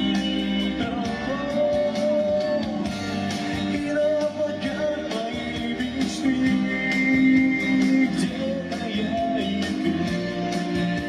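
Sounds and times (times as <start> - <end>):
instrumental accompaniment: 0.0 - 11.0
young man singing pop ballad: 0.0 - 11.0.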